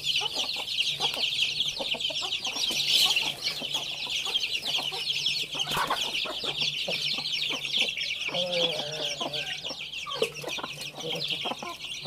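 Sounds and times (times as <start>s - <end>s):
chicken clucks: 0.0s - 12.0s
chicks peeping: 0.0s - 12.0s.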